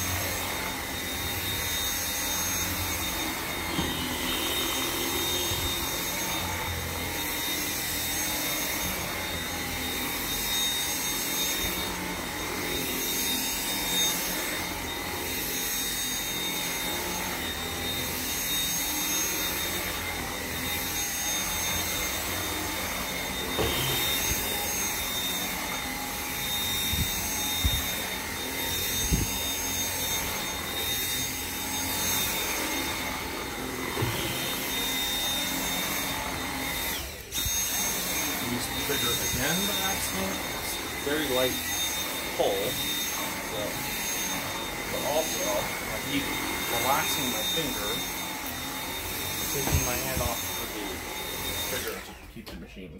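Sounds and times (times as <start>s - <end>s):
stick vacuum running: 0.0s - 52.9s.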